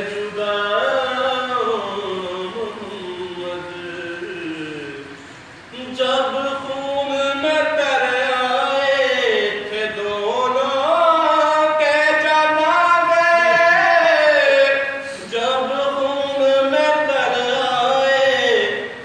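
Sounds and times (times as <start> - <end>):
man chanting: 0.0 - 5.1, 5.7 - 19.0.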